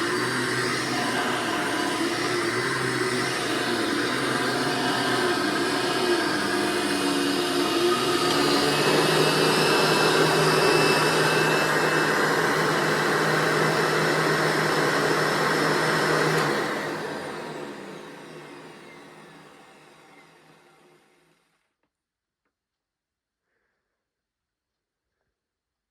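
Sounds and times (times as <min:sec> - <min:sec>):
motor winding down whine: 0:00.0 - 0:21.5
vacuum cleaner running: 0:00.0 - 0:21.5.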